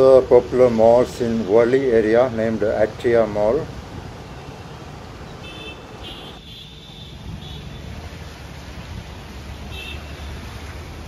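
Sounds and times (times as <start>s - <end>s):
tyres hissing on wet road: 0.0s - 11.0s.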